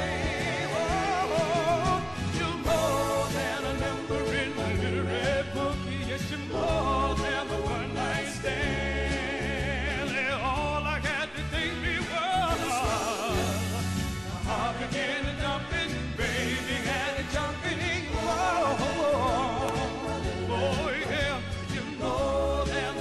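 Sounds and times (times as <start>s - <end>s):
backing music with bass line: 0.0s - 23.0s
vocal group singing: 0.0s - 23.0s.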